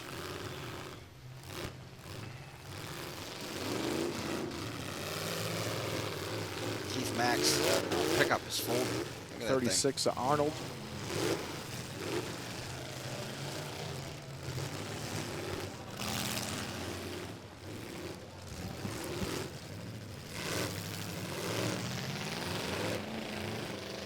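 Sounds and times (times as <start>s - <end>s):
distant truck engines revving: 0.0s - 24.0s.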